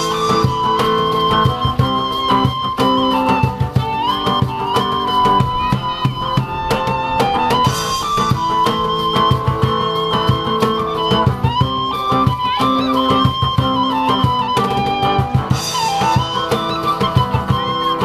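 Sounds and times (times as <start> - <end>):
drum kit beating: 0.0 - 18.0
guitar: 0.0 - 18.0
live band playing: 0.0 - 18.0
sliding melody line: 0.0 - 18.0.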